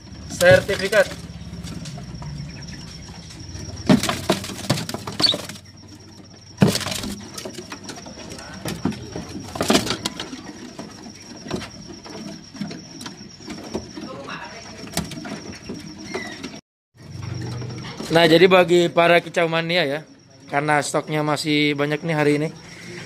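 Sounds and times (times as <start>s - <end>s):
caged birds calling: 0.0s - 23.0s.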